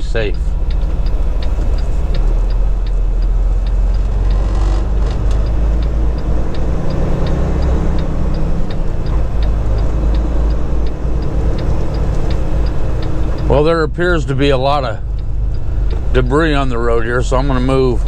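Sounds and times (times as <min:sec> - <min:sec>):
light ticking: 0:00.0 - 0:18.0
road noise on wet highway: 0:00.0 - 0:18.0
truck engine drone: 0:00.0 - 0:18.0.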